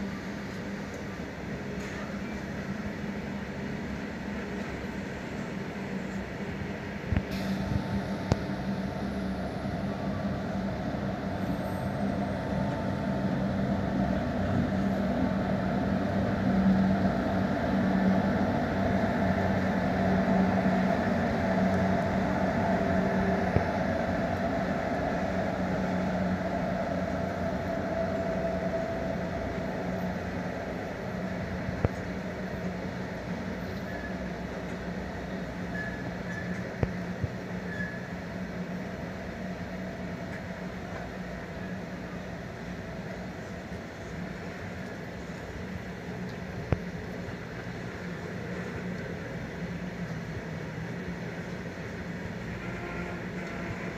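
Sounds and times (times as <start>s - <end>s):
train wagons rumbling on rails: 0.0s - 53.9s.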